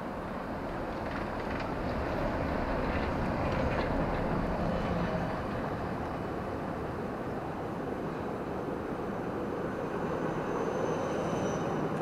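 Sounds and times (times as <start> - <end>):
tram rumbling past: 0.0 - 12.0.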